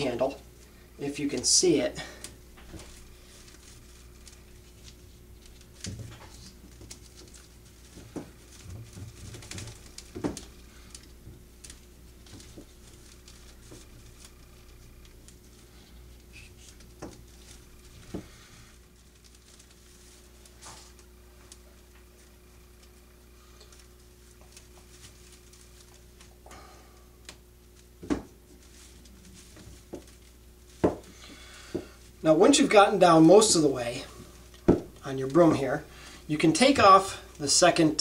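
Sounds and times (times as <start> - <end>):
low steady hum: 0.0 - 38.0
twine rustling on twigs: 0.0 - 38.0
twigs clicking and crackling: 0.2 - 38.0.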